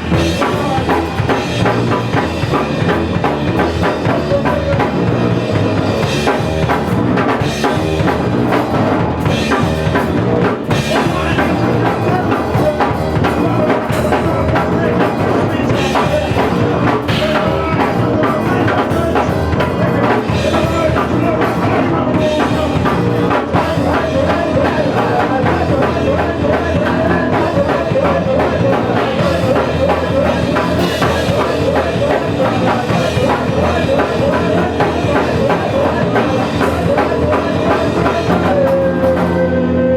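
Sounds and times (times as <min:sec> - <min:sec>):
drum kit: 0:00.0 - 0:39.9
electric bass: 0:00.0 - 0:39.9.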